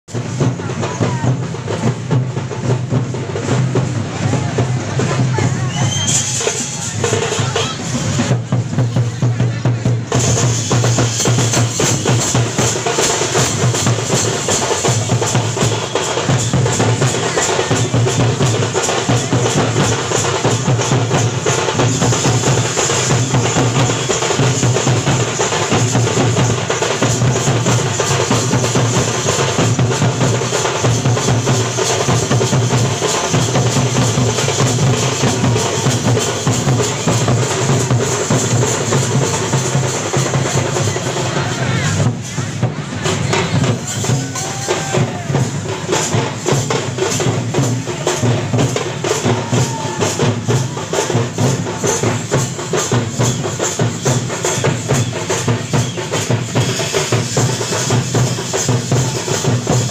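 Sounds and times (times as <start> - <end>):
deep drum beat: 0.1 - 59.9
fast drumming: 0.1 - 59.9.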